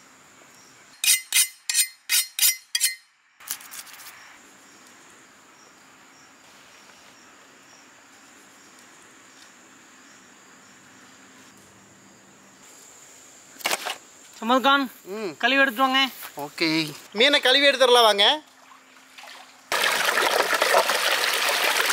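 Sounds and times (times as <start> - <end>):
insects droning: 0.0 - 1.2, 3.3 - 21.9.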